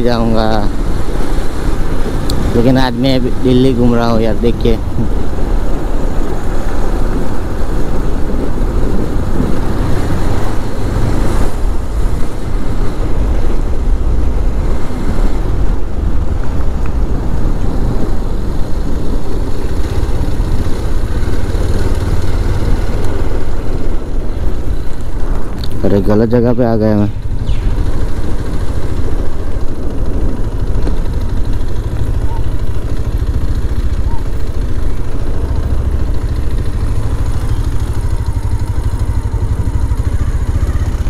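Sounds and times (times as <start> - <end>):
motorcycle engine running: 0.0 - 41.0
wind rushing over microphone: 0.0 - 41.0.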